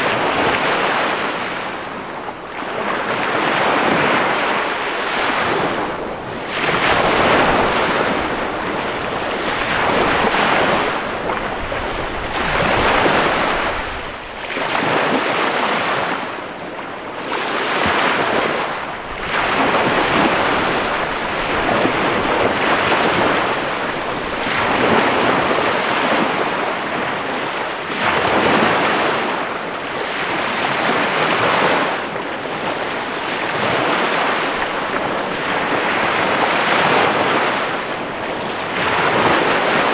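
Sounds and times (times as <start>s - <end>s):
waves washing up a beach: 0.0s - 39.9s.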